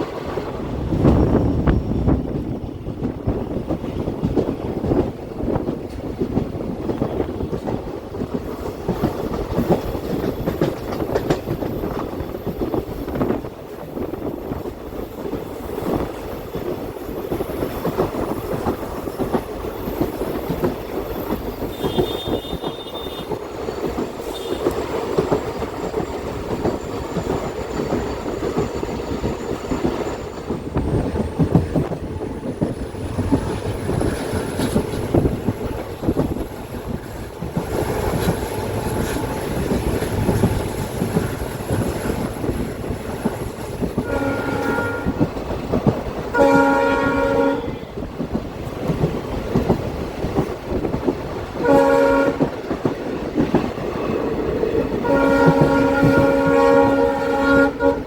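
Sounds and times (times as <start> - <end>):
clacks over rails: 0.0 - 58.0
train wheels rumbling: 0.0 - 58.0.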